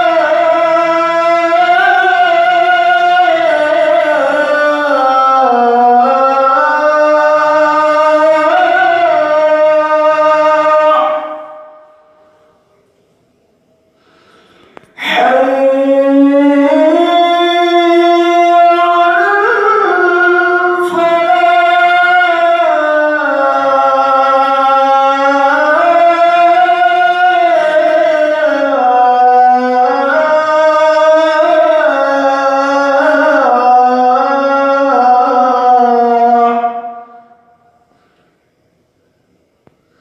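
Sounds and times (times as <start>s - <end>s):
man chanting call to prayer: 0.0s - 12.7s, 14.9s - 37.6s.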